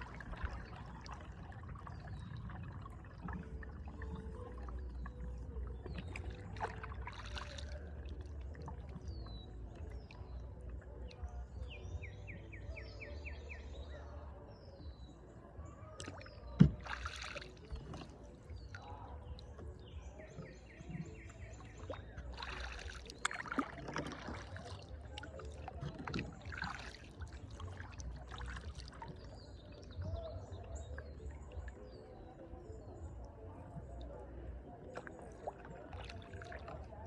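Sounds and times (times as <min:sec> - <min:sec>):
paddle splashing in water: 0:00.0 - 0:32.0, 0:34.8 - 0:37.0.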